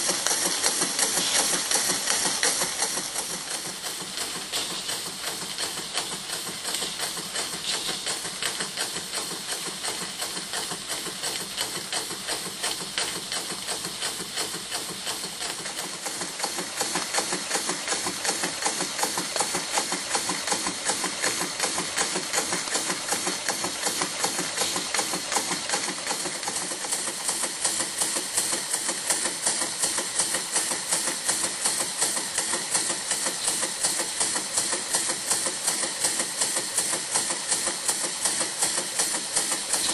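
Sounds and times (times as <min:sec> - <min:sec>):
steam engine exhaust beat: 0:00.0 - 0:39.9.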